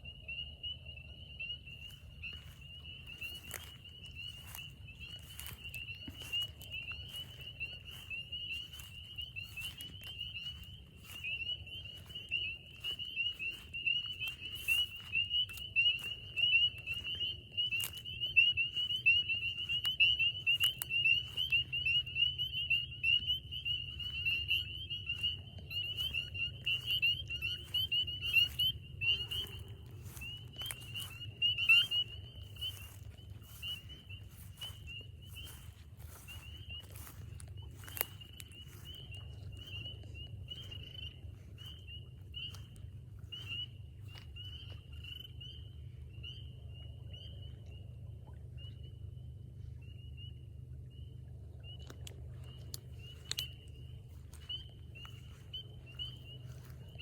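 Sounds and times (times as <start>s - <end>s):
frogs calling in chorus: 0.0s - 47.6s, 51.6s - 57.0s.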